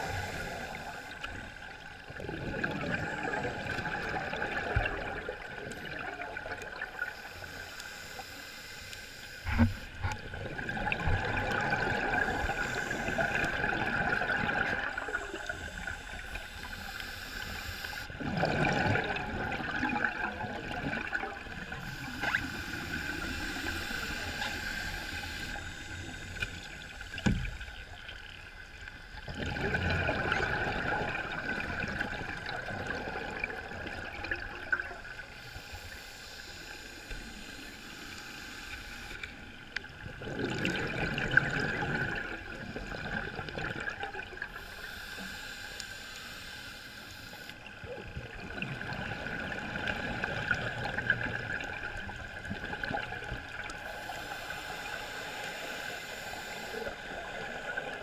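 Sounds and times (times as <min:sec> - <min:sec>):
underwater bubbles gurgling: 0:00.0 - 0:45.9, 0:47.0 - 0:58.0.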